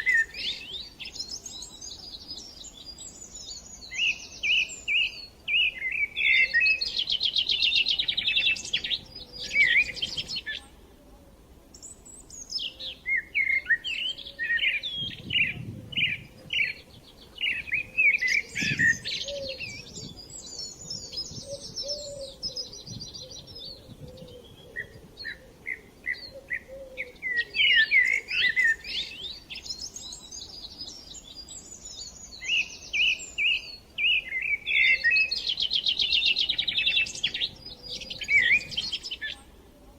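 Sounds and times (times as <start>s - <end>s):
small birds chirping: 0.0s - 10.8s, 11.7s - 39.9s.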